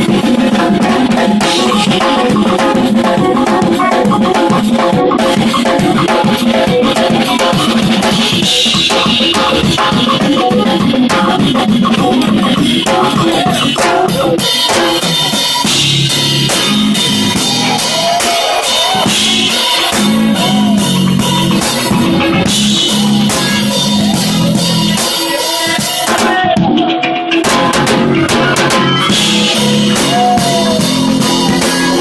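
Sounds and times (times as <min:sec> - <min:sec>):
bass line: 0:00.0 - 0:32.0
drum kit: 0:00.0 - 0:32.0
jazz fusion band playing: 0:00.0 - 0:32.0.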